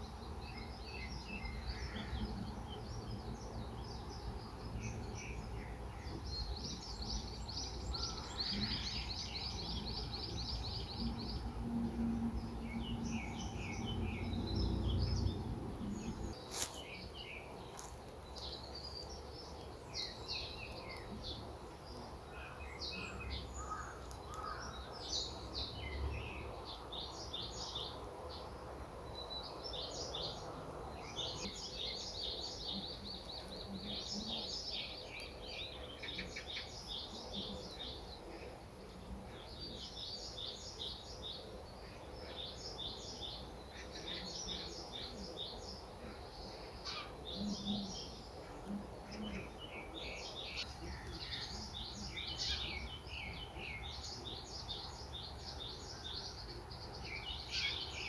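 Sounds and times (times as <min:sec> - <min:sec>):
low background noise: 0:00.0 - 0:58.0
small birds chirping: 0:00.0 - 0:58.0.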